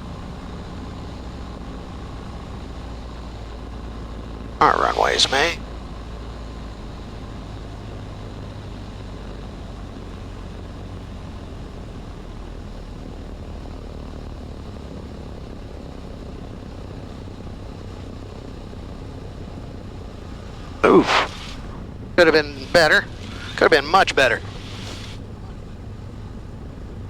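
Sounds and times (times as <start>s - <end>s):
airplane engine drone in cockpit: 0.0s - 27.0s.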